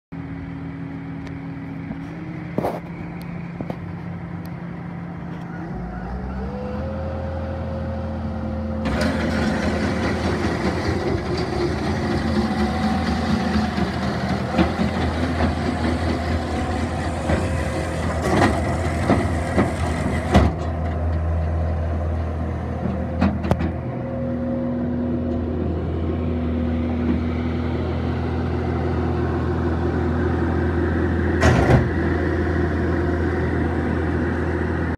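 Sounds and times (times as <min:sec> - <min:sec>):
diesel engine running with whine: 0:00.1 - 0:34.9.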